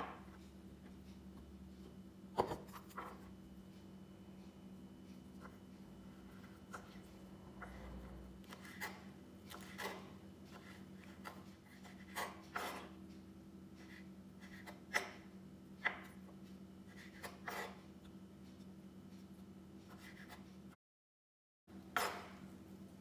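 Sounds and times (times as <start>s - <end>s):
faint steady hum: 0.0s - 20.8s.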